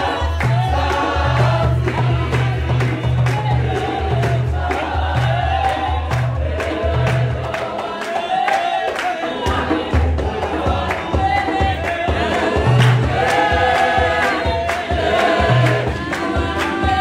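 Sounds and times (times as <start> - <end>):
gospel choir singing: 0.0 - 17.0
hand claps on beat: 0.0 - 17.0.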